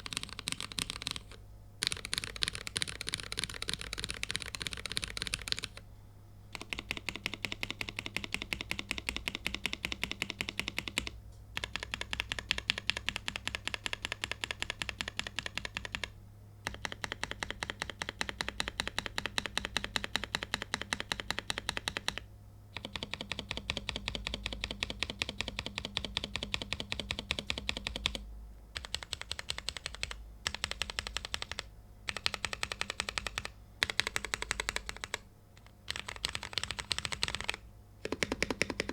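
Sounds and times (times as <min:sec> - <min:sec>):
fast typing on mechanical keyboard: 0:00.0 - 0:05.8, 0:06.5 - 0:28.2, 0:28.8 - 0:38.9.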